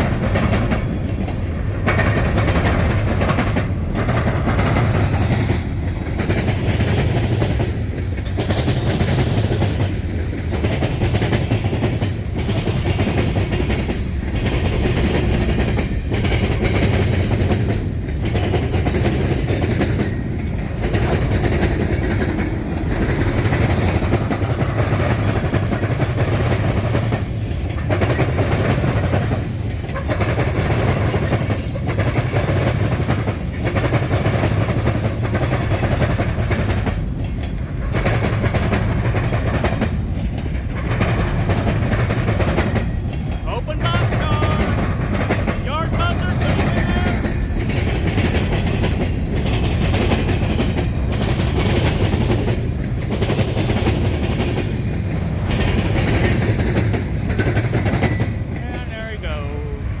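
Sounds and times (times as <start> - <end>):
freight train wheels clattering: 0.0 - 60.0.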